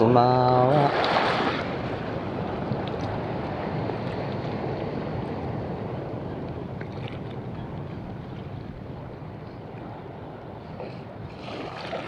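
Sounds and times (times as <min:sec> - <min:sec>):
wind noise on microphone: 0:00.0 - 0:12.0
sea waves washing: 0:00.5 - 0:12.0.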